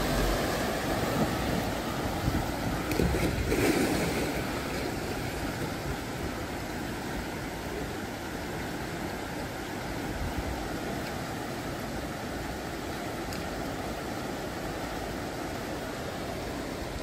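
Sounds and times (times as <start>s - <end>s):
floodwater rushing and splashing: 0.0s - 17.0s.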